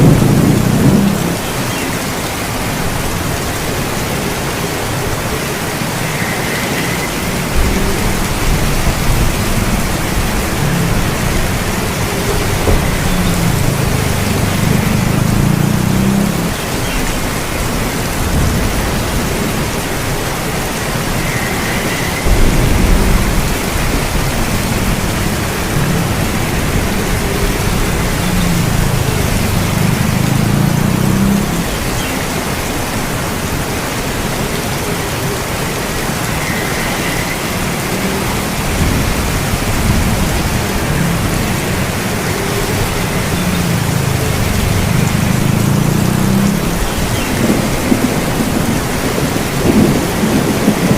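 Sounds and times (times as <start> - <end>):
thunder rolling: 0.0 - 31.9, 38.2 - 50.9
heavy rain: 0.0 - 50.9.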